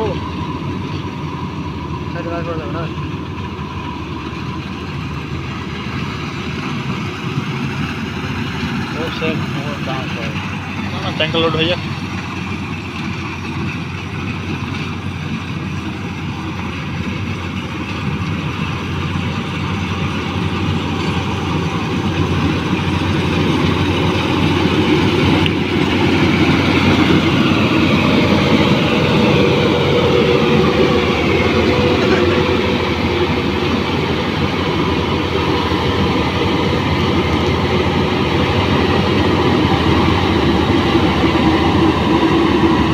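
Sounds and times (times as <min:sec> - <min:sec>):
combine harvester clattering: 0:00.0 - 0:42.9.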